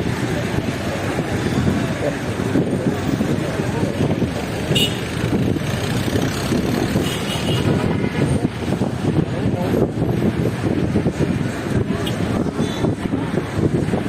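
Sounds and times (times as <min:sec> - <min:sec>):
road traffic passing: 0:00.0 - 0:14.0
wind on microphone: 0:00.0 - 0:14.0.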